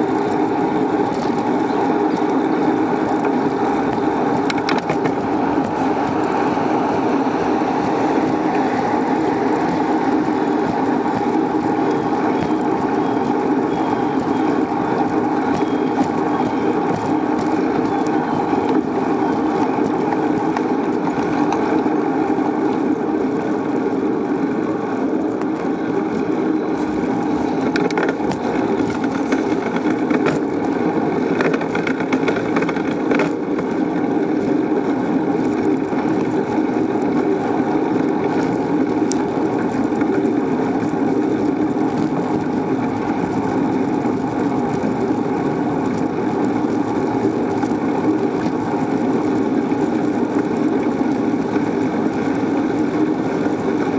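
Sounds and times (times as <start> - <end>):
bicycle riding noise: 0.0 - 53.9.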